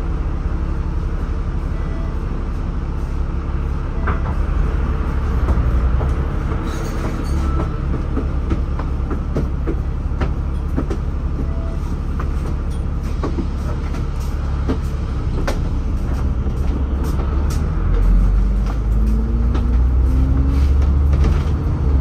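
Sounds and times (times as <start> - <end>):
bus engine and road rumble: 0.0 - 22.0
bus body clicks and rattles: 4.0 - 22.0.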